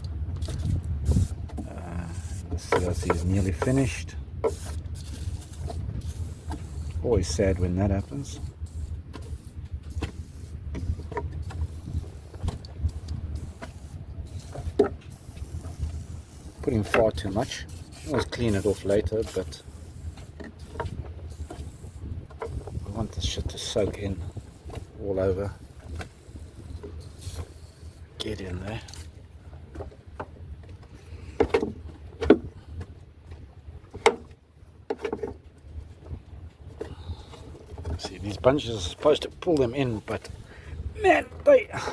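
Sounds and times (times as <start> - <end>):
wind buffeting microphone: 0.0 - 34.8, 35.4 - 41.9.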